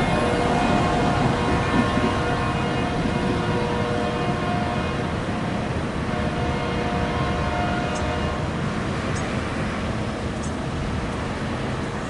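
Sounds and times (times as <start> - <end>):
freight train rumble: 0.0 - 12.0.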